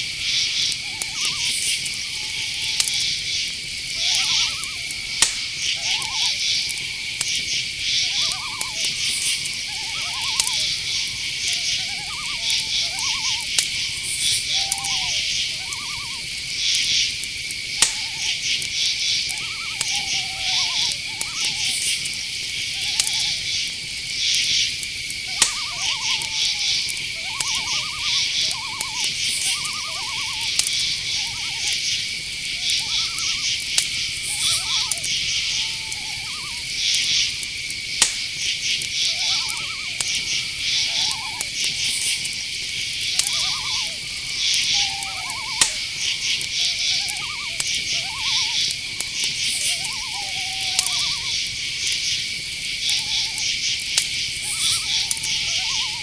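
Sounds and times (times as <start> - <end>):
crickets trilling and chirping: 0.0 - 56.0
low pulsed insect calls: 0.0 - 56.0
sharp clicks: 0.6 - 52.2.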